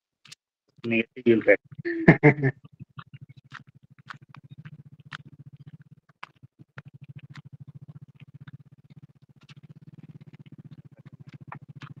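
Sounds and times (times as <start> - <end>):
pulsing low buzzing hum: 1.2 - 12.0.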